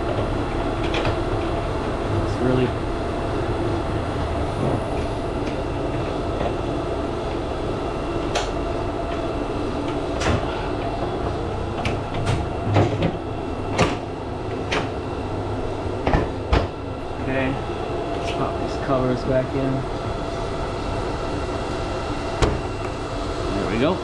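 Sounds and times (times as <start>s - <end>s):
steady machinery hum: 0.0s - 24.0s.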